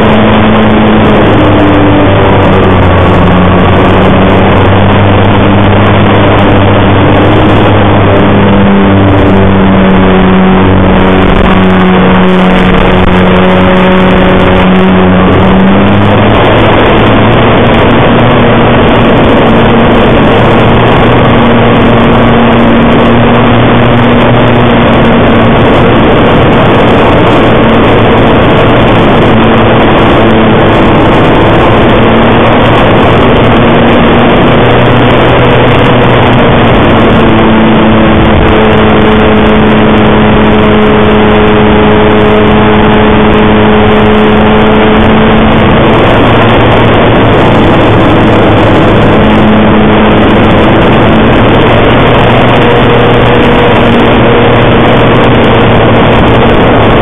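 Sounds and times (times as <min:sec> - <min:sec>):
model aircraft engine and propeller: 0:00.0 - 0:57.0.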